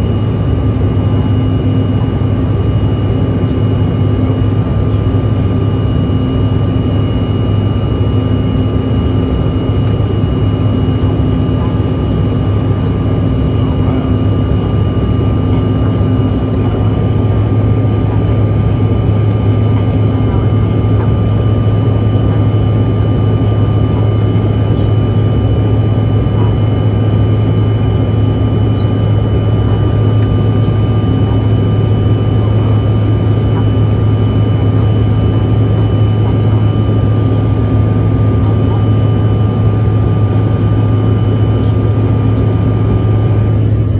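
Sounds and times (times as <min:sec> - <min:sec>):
airliner cabin low hum: 0:00.0 - 0:43.9.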